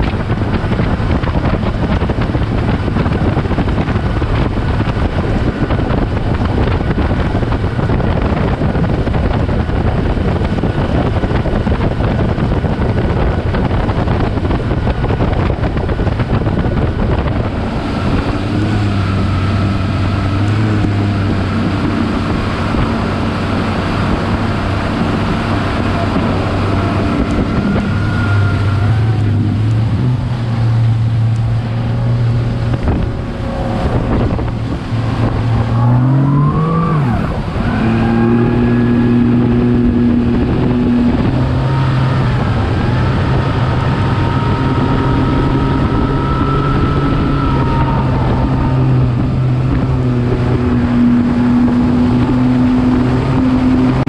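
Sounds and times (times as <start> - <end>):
boat hull rushing through water: 0.0 - 54.0
outboard motor running: 0.0 - 54.0
wind on microphone: 0.0 - 54.0.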